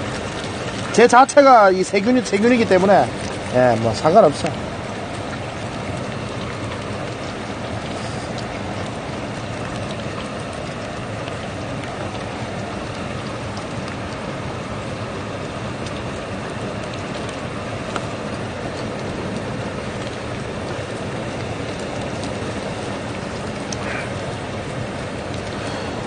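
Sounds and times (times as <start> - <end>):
sea waves: 0.0 - 26.0
wind: 0.0 - 26.0.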